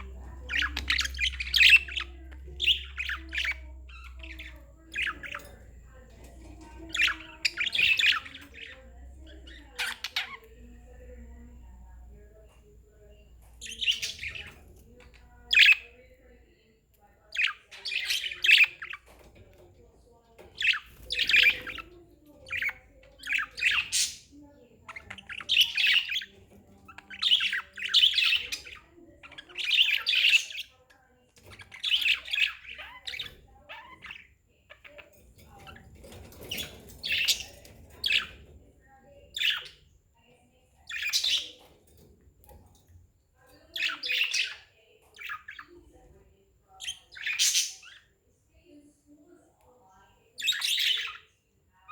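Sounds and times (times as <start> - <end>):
budgerigars chirping: 0.0 - 16.4, 17.2 - 19.7, 20.3 - 30.8, 31.4 - 39.9, 40.8 - 41.8, 43.5 - 46.0, 46.7 - 48.1, 50.4 - 51.3.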